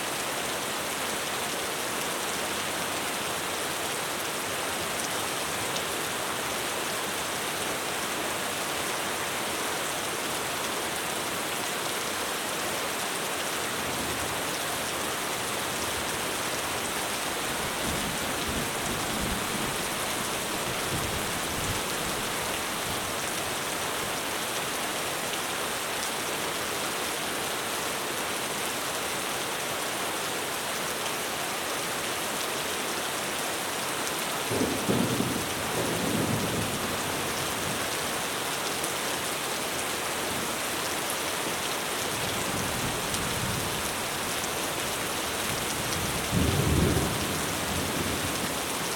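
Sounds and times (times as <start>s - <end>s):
heavy rain on a roof: 0.0s - 48.9s.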